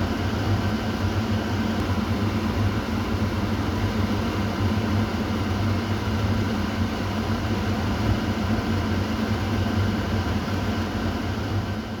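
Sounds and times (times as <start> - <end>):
exhaust fan air rush: 0.0 - 12.0.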